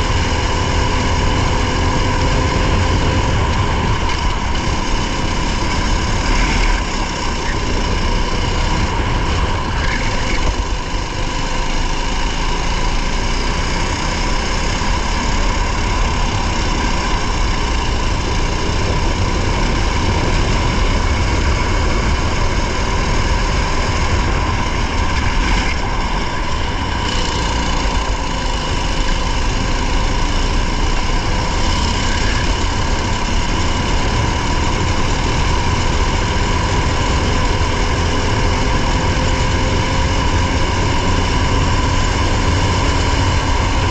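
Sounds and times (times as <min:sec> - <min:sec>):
race car engine running: 0:00.0 - 0:43.9.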